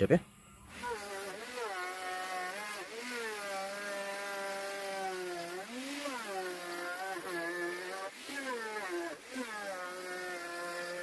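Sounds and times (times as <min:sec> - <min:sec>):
electric router whining: 0:00.0 - 0:11.0.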